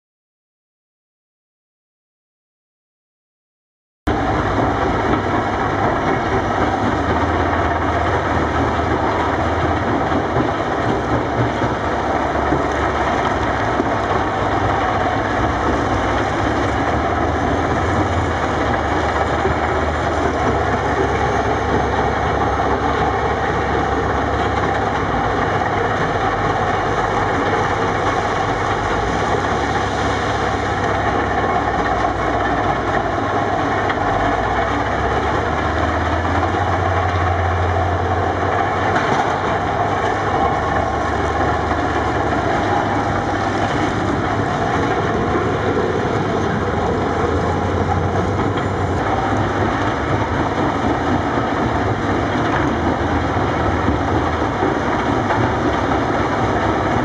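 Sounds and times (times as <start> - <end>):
excavator working: 4.1 - 57.0
rock crusher running: 4.1 - 57.0.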